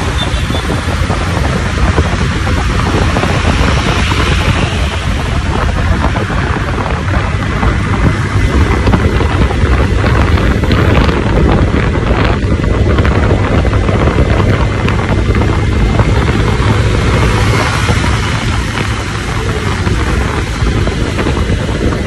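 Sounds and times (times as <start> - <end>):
motorcycle and road noise: 0.0 - 22.0
wind buffeting microphone: 0.0 - 22.0.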